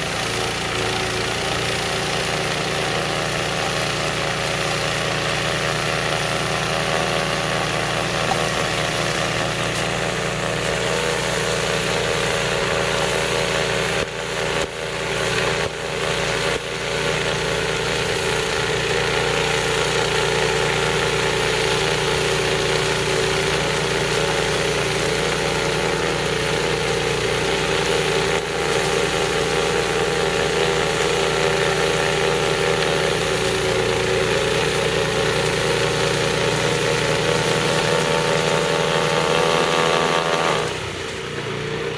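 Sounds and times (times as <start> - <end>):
snowblower engine running: 0.0 - 41.9.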